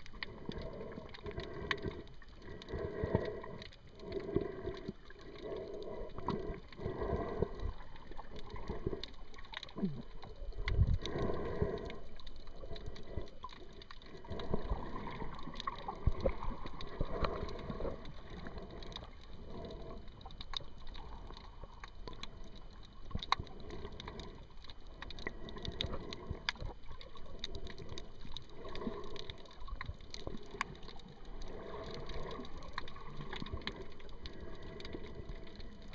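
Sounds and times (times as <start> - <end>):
sharp underwater clicks: 0.0 - 35.9
underwater gurgling water: 0.0 - 35.9.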